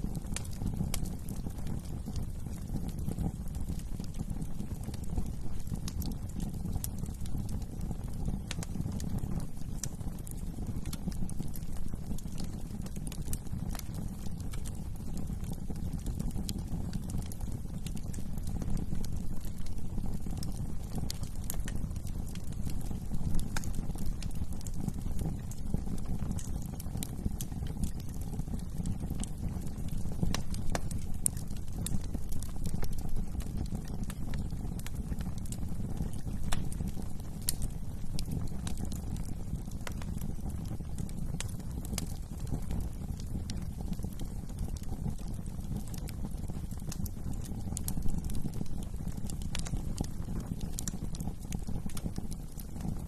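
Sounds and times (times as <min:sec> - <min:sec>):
low rumble of flames: 0:00.0 - 0:53.0
wood fire crackling and popping: 0:00.0 - 0:53.0.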